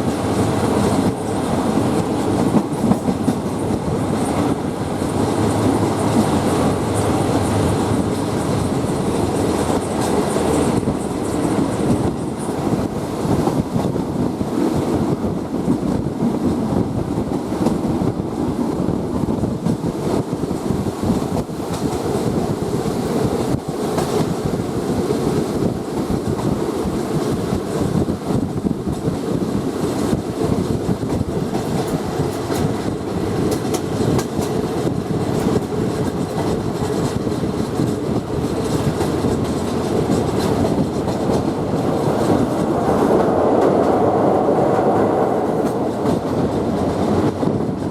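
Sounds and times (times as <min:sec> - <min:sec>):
wheels clicking over rail joints: 0:00.0 - 0:14.2, 0:18.8 - 0:44.0
train running noise: 0:00.0 - 0:47.9.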